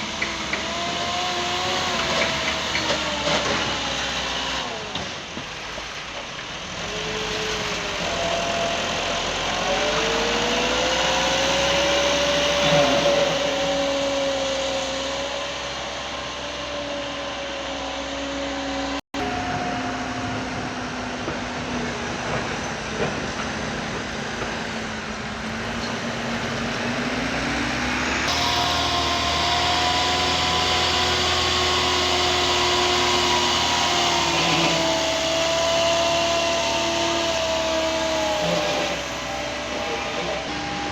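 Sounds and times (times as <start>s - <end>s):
heavy machinery engine under load: 0.0s - 40.9s.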